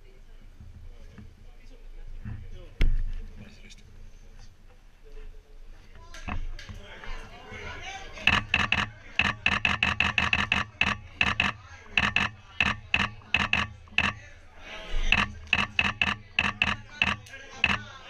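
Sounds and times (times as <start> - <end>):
voices: 0.0 - 18.0.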